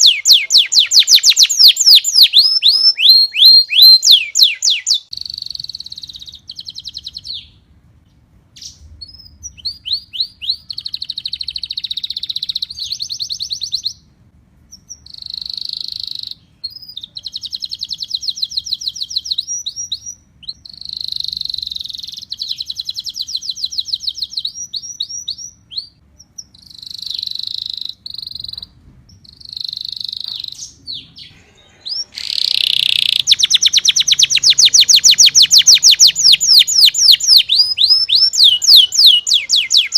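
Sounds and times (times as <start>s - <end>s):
canary singing trills: 0.0s - 7.7s, 8.6s - 39.9s.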